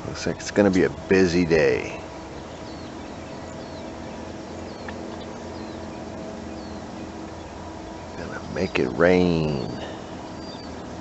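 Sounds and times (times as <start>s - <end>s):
steady low hum: 0.0s - 11.0s
bird high chirp: 0.5s - 10.9s.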